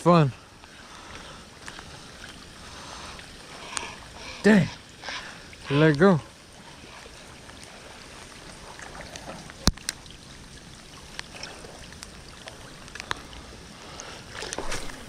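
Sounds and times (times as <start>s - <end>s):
rain and water hiss: 0.0s - 15.0s.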